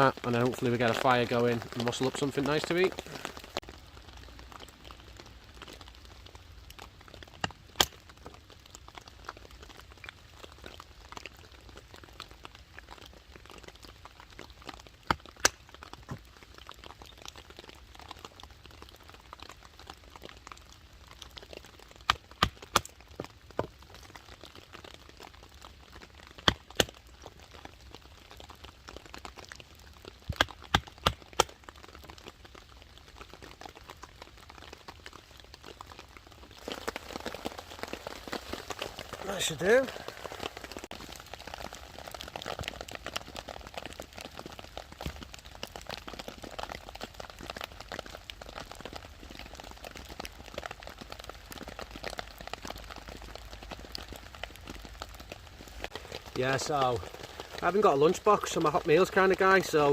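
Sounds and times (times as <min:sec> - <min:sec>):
heavy rain patter: 0:00.0 - 0:59.9.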